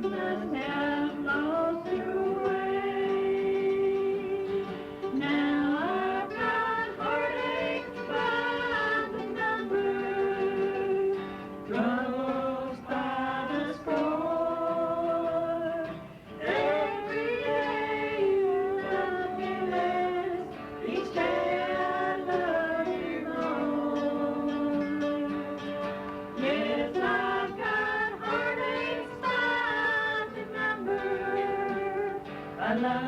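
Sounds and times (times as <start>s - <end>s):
guitar: 0.0s - 33.0s
person singing: 0.0s - 33.0s.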